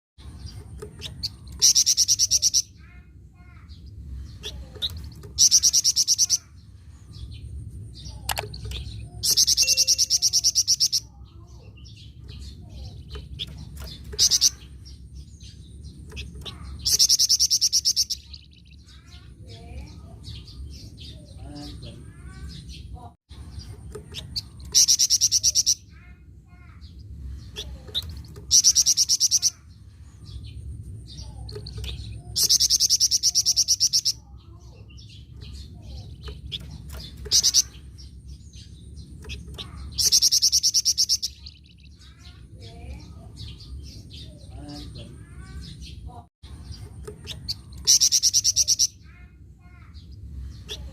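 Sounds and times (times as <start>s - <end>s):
songbird chirps and trill: 0.2s - 50.9s.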